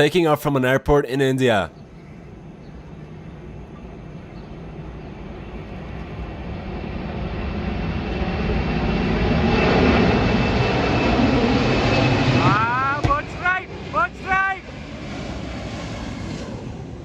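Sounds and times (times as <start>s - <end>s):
jet engines rushing: 1.3s - 17.0s.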